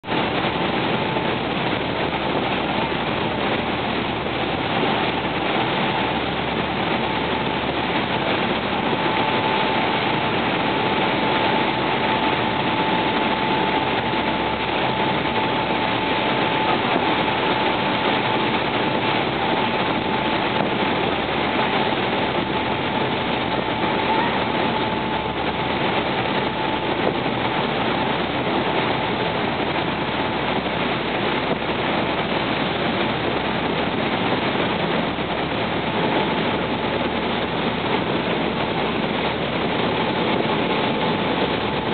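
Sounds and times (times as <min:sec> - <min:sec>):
boat engine running: 0:00.0 - 0:41.9
wind and water rushing: 0:00.0 - 0:41.9
thin steady whine: 0:00.1 - 0:41.9.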